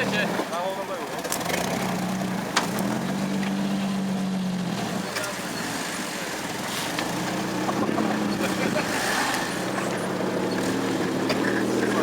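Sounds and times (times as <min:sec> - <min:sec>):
car engine driving off-road: 0:00.0 - 0:12.0.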